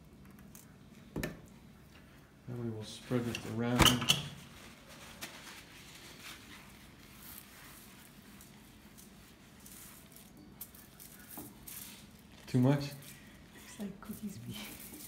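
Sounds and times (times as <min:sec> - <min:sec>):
paper towel rustling on tray: 0:02.8 - 0:15.0.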